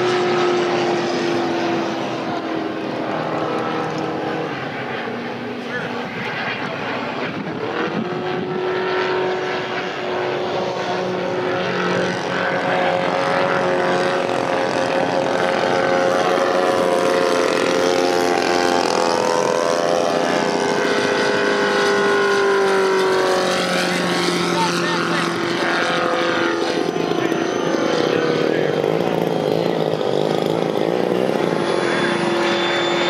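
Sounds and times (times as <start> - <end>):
model plane engine: 0.0 - 33.0.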